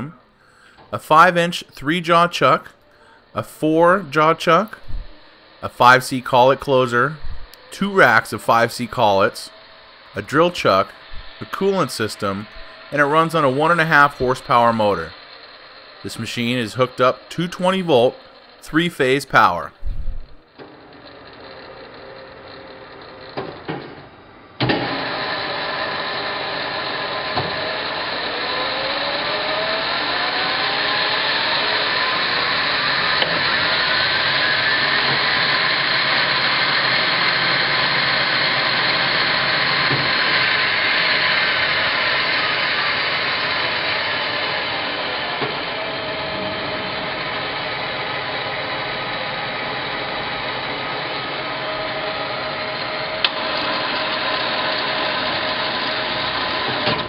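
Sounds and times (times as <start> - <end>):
lathe spindle whining: 0.0 - 57.0.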